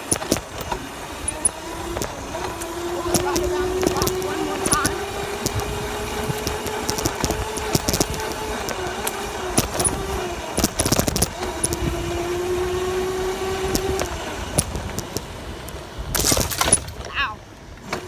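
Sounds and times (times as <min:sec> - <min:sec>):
sharp clicks and rattles: 0:00.0 - 0:17.1
dirt bike engine drone: 0:00.0 - 0:18.0.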